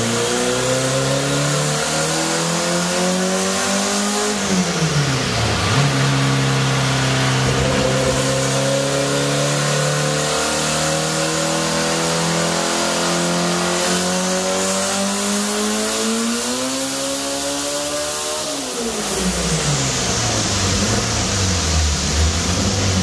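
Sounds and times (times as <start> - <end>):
car engine revving under load: 0.0 - 23.0.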